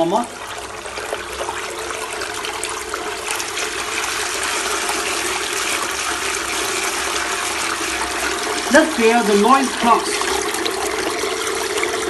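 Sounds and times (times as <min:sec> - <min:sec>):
faint pump hum: 0:00.0 - 0:12.0
water pouring and splashing: 0:00.0 - 0:12.0.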